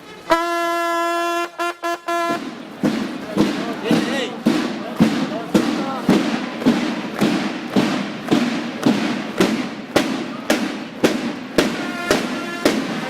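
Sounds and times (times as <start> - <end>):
marching boots on pavement: 1.6 - 13.0.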